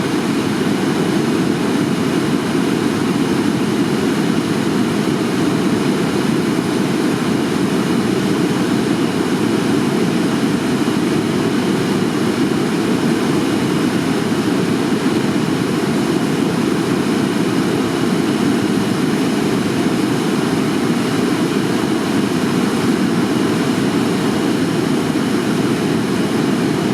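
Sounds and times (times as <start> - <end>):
river water rushing: 0.0 - 26.9.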